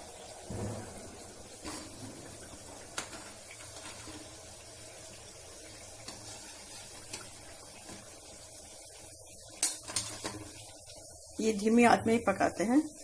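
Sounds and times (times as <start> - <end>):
pastries sizzling in oil: 0.0 - 13.0.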